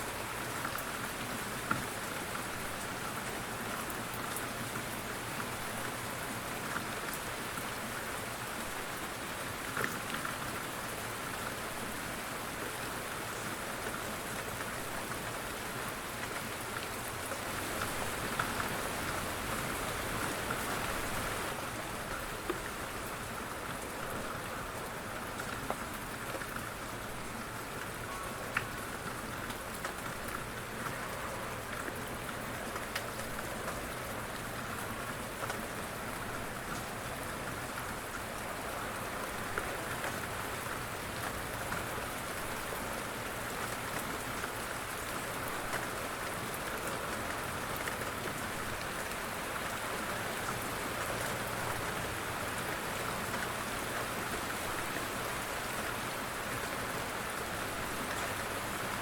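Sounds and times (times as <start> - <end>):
light rain patter: 0.0 - 59.0.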